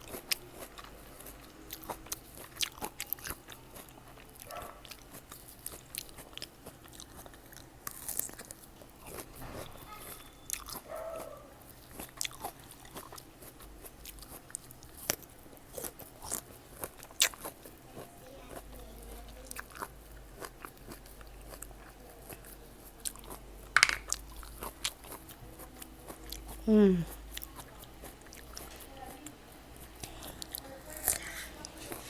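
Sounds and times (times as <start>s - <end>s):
crunchy fruit chewing: 0.0s - 32.0s.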